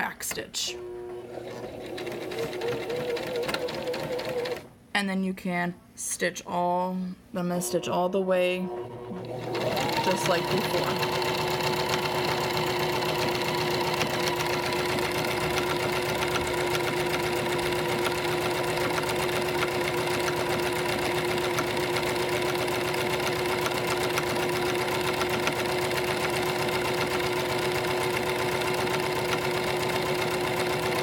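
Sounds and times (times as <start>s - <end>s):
sewing machine running: 0.8s - 4.7s, 8.6s - 31.0s.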